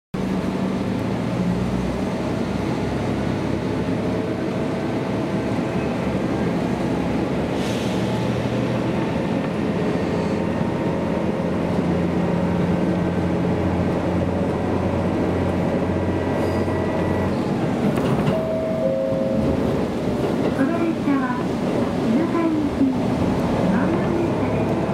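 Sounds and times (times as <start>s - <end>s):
diesel engine hum: 0.2s - 24.9s
train wheels rolling on rails: 0.3s - 24.9s.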